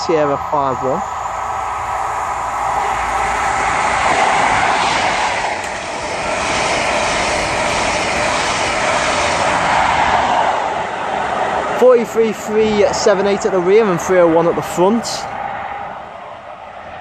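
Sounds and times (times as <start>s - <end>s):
diesel train passing at speed: 0.0s - 17.0s.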